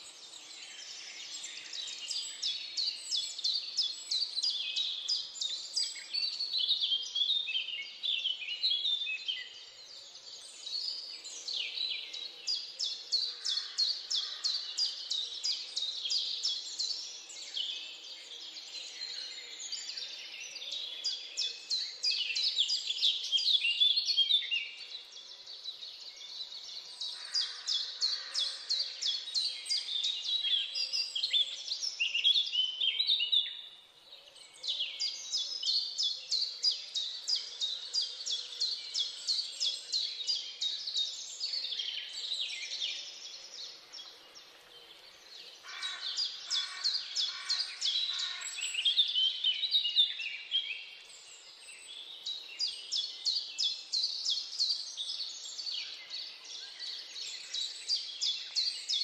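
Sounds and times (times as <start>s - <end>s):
birds singing and chirping: 0.0s - 59.0s.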